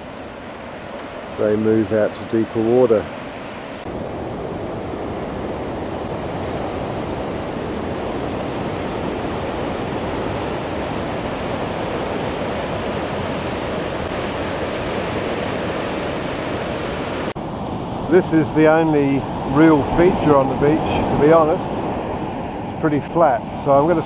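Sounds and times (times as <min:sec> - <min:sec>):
waves breaking on a beach: 0:00.0 - 0:24.0.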